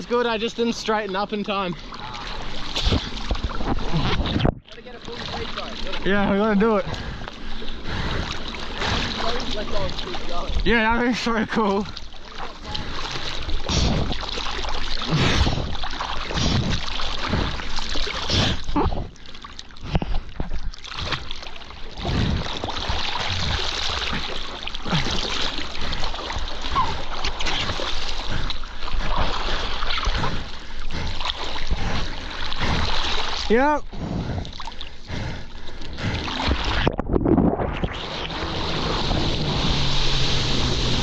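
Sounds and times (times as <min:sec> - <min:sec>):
water rushing and splashing: 0:00.0 - 0:33.9, 0:36.1 - 0:41.0.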